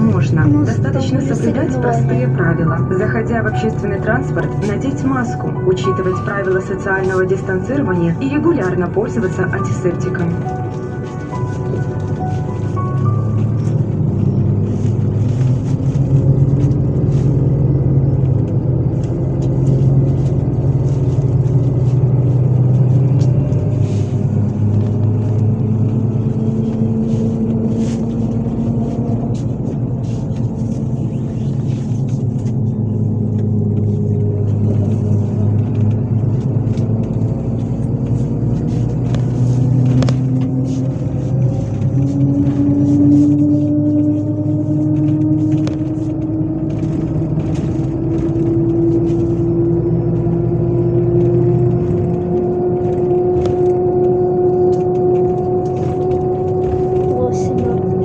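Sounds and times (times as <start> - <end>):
bus engine drone: 0.0 - 58.0
road noise: 0.0 - 58.0.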